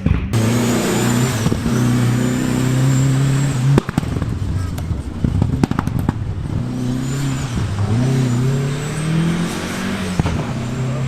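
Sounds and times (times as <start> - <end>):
rally car engine revving: 0.0 - 11.0
sharp crack: 0.0 - 11.0.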